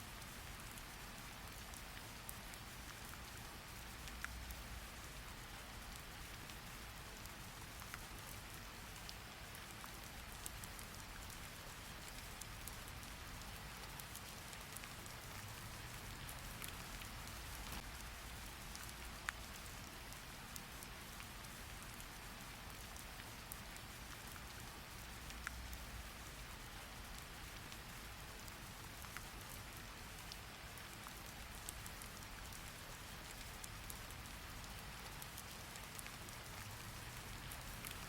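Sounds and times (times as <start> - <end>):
rain falling: 0.0 - 38.0
sharp rain ticks: 0.1 - 38.0.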